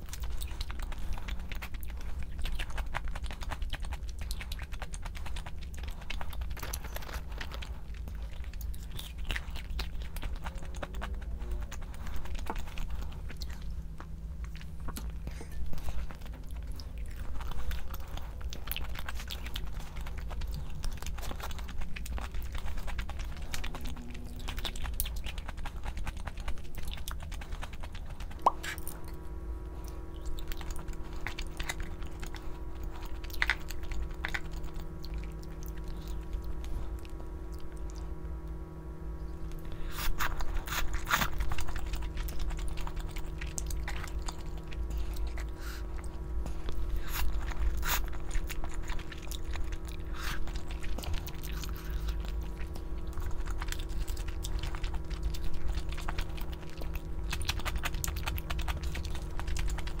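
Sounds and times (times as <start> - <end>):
chewing and crunching: 0.0 - 60.0
steady low hum: 0.0 - 60.0.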